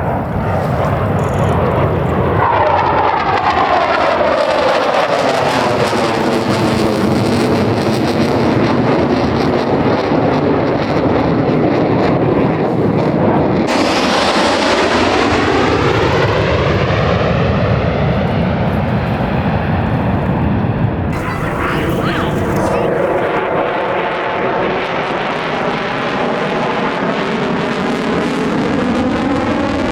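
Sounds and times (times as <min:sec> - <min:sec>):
jets flying past: 0:00.0 - 0:28.6.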